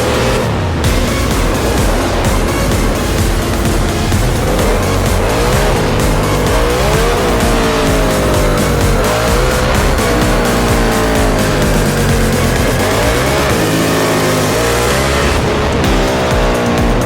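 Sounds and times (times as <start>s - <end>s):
background music with steady beat: 0.0s - 17.0s
motorcycle engine revving: 0.0s - 17.0s.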